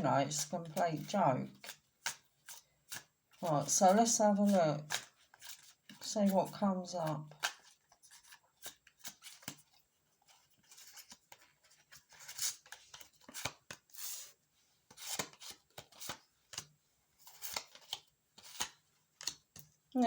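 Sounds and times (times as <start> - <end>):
cards being shuffled: 0.4 - 14.3, 14.9 - 19.6.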